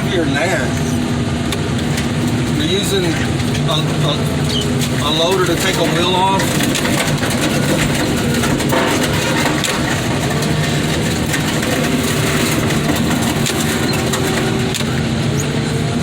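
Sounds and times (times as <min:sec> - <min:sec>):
wheel loader diesel engine: 0:00.0 - 0:16.0.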